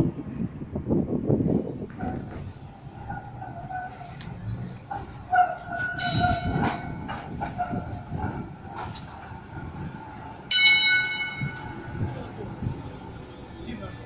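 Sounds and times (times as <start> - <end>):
tram motor and wheels on rails: 0.0 - 14.0.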